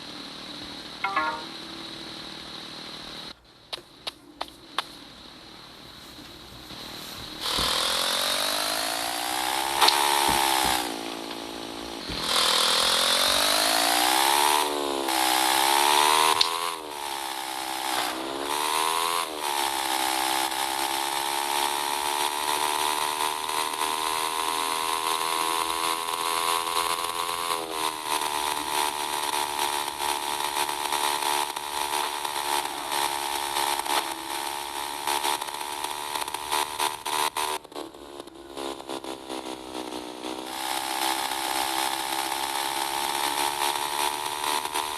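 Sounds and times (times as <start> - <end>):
small motorcycle engine revving: 0.0 - 3.4, 7.0 - 44.9.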